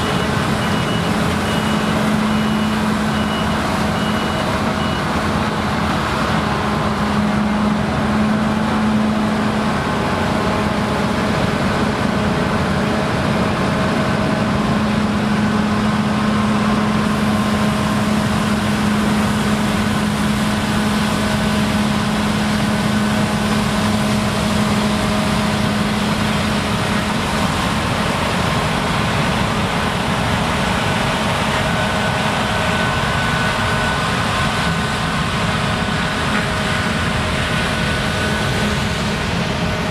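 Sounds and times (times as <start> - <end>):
combine harvesters droning: 0.0 - 39.9.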